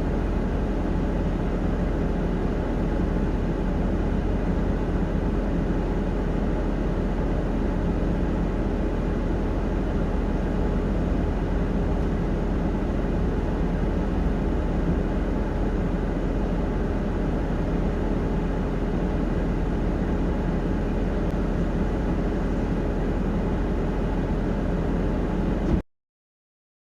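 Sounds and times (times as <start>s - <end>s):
vehicle engine idling: 0.0s - 25.8s.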